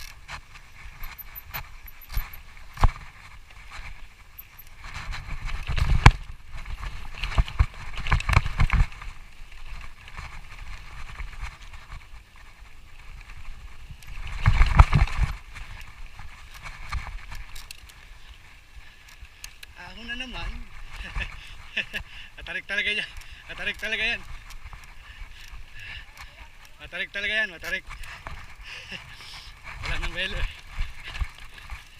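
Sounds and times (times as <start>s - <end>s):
tyre and wind rush: 0.0s - 18.9s, 19.7s - 31.9s
bike frame and chain rattling: 0.0s - 31.9s.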